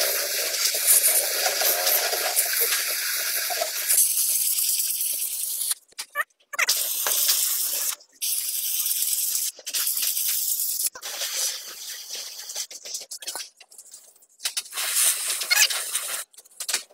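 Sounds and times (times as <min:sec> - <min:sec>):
spray paint can hissing: 0:00.0 - 0:05.9, 0:06.6 - 0:12.9, 0:14.6 - 0:16.3.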